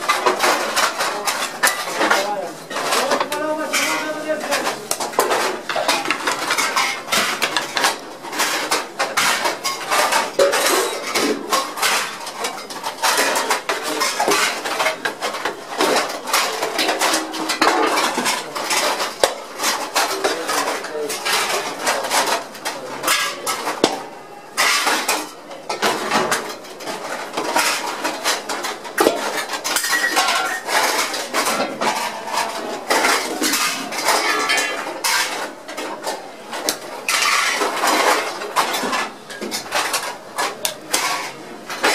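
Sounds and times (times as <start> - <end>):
ceramic plates clinking: 0.0 - 41.9.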